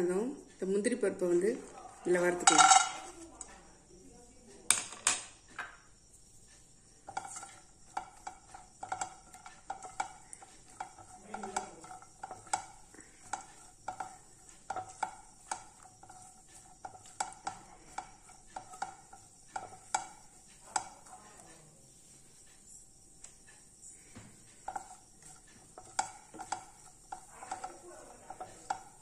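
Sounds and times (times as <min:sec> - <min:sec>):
nuts frying in oil: 0:00.0 - 0:29.0
spatula scraping frying pan: 0:01.3 - 0:03.2, 0:06.2 - 0:29.0.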